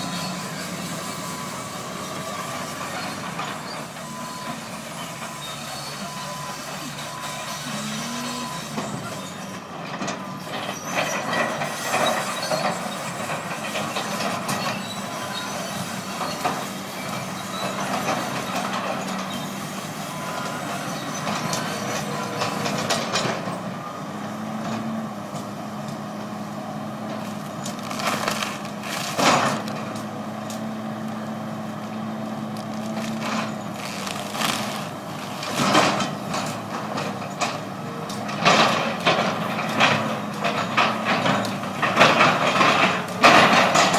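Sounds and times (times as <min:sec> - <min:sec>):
heavy engine running: 0:00.0 - 0:43.9.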